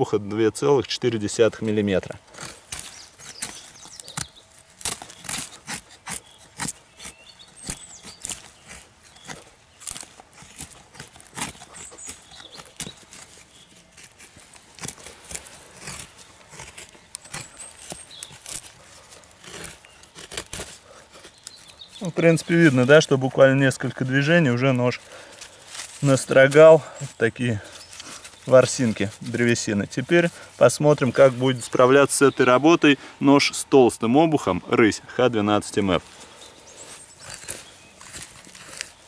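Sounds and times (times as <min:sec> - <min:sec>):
knife scraping wood: 0:02.2 - 0:24.3, 0:25.0 - 0:31.8, 0:36.0 - 0:39.0.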